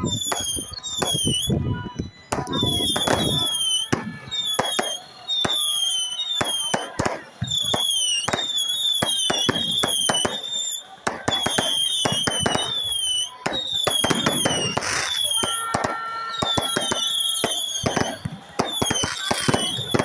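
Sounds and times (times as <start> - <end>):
falling firework whistles: 0.0 - 20.0
fireworks crackling and banging: 0.0 - 20.0.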